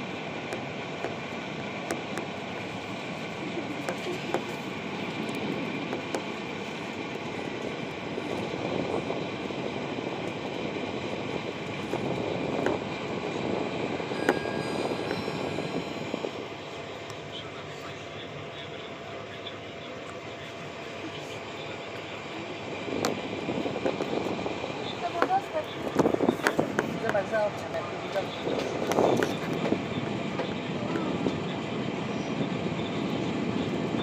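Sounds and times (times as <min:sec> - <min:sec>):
train wheels on track: 0:00.0 - 0:34.0.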